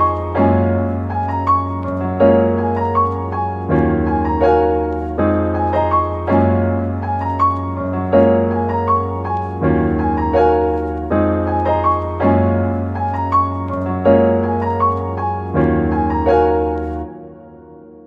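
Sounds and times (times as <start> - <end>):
piano melody: 0.0 - 18.0.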